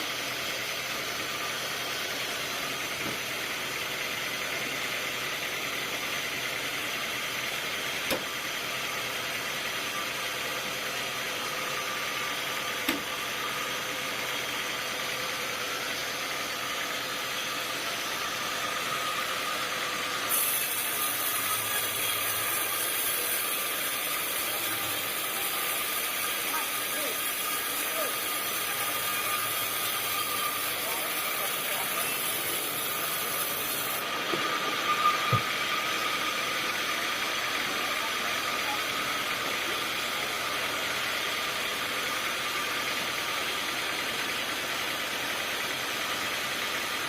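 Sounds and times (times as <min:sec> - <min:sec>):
sawmill saw whining: 0:00.0 - 0:47.0.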